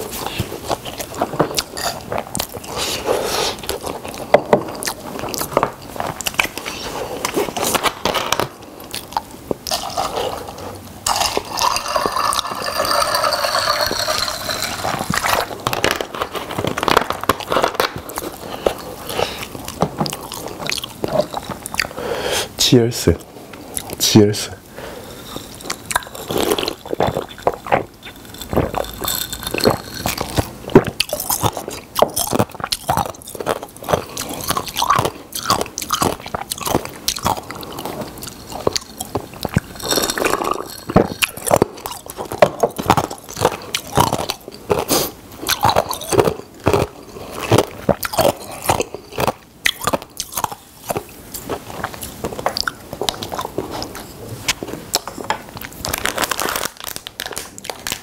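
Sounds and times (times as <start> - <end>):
chewing and smacking: 0.0 - 22.0, 25.1 - 58.0.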